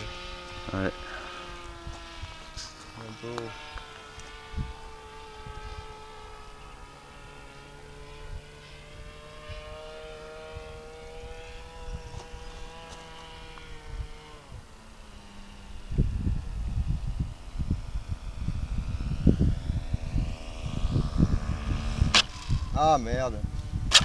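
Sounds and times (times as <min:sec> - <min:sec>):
model airplane motor droning: 0:00.0 - 0:24.0.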